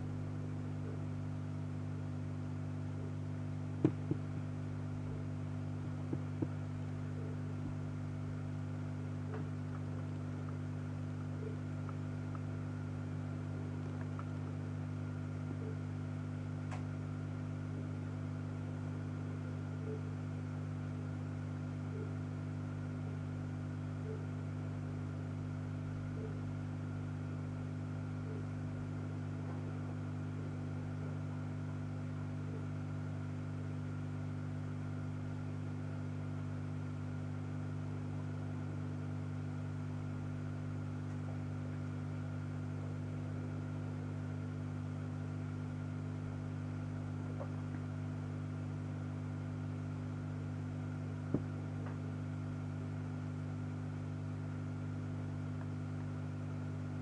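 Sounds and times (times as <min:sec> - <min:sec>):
aquarium pump motor hum: 0:00.0 - 0:57.0.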